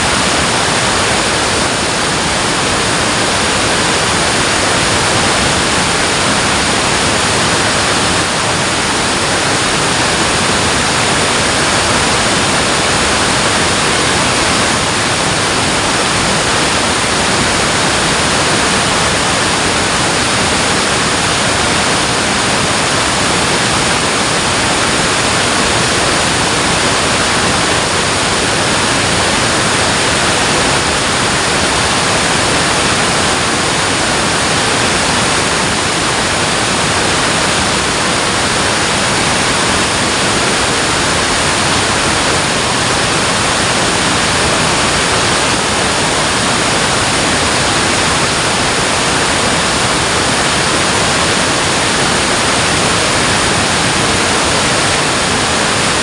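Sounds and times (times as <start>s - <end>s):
water rushing from a dam: 0.0s - 56.0s.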